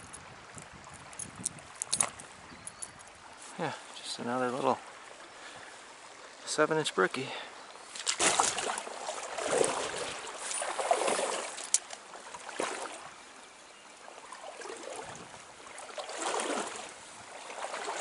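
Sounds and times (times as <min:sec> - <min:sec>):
stream water trickling: 0:00.0 - 0:18.0.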